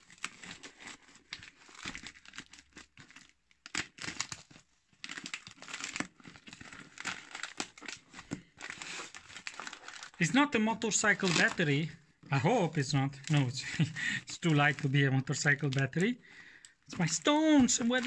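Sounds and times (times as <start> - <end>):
plastic wrapping film crinkling: 0.0 - 18.0.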